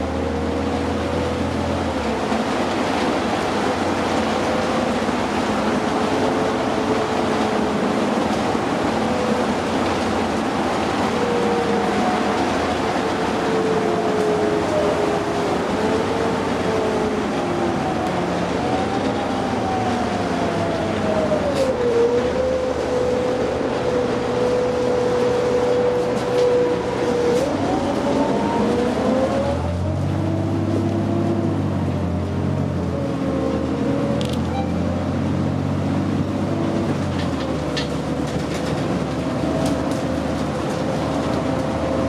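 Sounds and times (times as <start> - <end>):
bus drivetrain whine: 0.0 - 42.0
road noise: 0.0 - 42.0.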